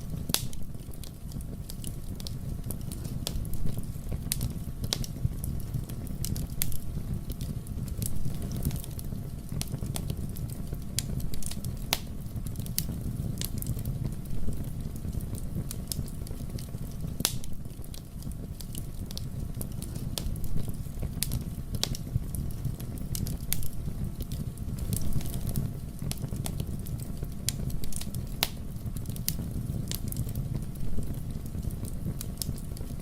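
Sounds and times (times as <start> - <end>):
fire crackling in a fireplace: 0.0 - 33.0.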